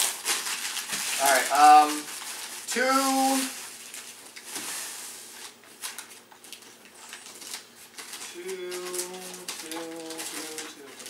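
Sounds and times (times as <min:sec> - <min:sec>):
wrapping paper tearing and crumpling: 0:00.0 - 0:11.0.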